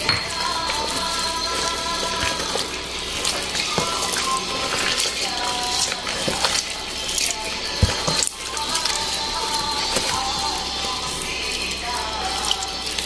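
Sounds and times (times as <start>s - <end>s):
hands kneading wet squelching: 0.0s - 13.0s.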